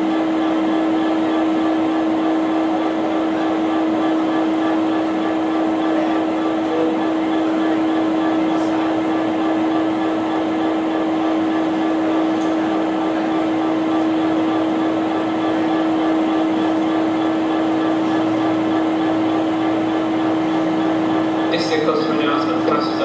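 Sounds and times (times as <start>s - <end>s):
diesel train engine rumbling: 0.0s - 23.0s.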